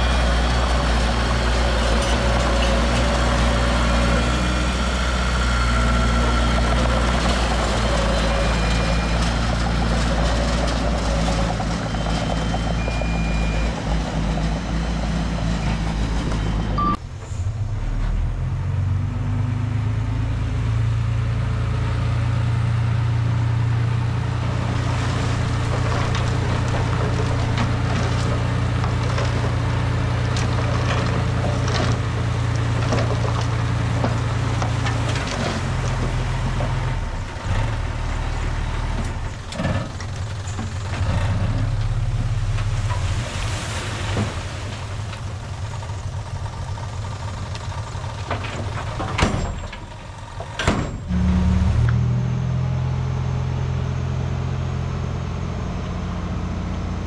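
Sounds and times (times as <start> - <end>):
heavy diesel engine running: 0.0 - 19.4, 20.0 - 57.0.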